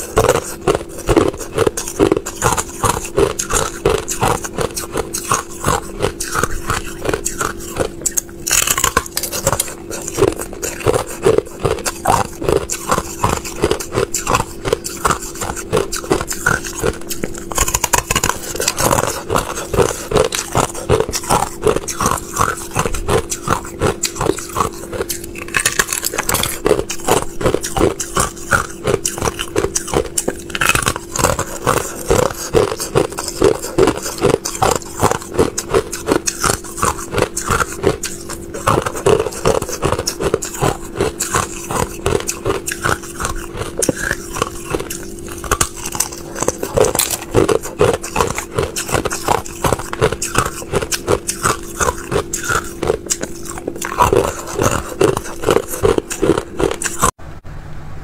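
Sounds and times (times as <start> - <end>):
ice being chewed crunching: 0.0 - 57.2
faint steady hum: 0.0 - 58.0.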